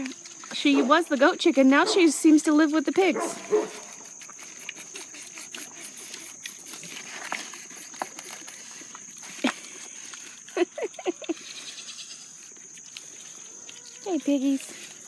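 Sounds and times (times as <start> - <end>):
pigs chewing and snuffling: 0.0 - 15.0.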